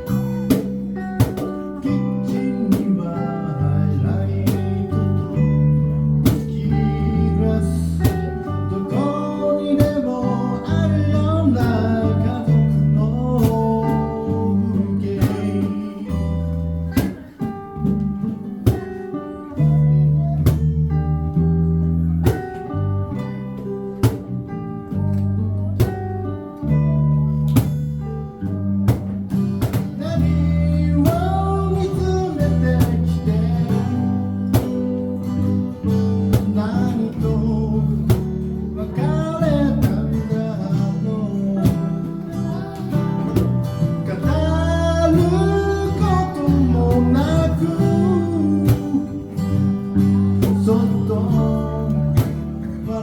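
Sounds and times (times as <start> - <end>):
acoustic guitar strumming chords: 0.0 - 53.0
bass line: 0.0 - 53.0
sung or played melody: 0.0 - 53.0.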